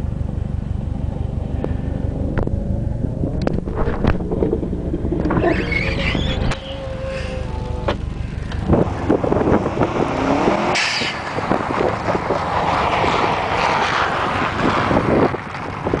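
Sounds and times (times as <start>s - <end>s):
rough crackling rumble: 0.0s - 10.2s, 11.2s - 16.0s
car engine revving: 0.7s - 15.8s.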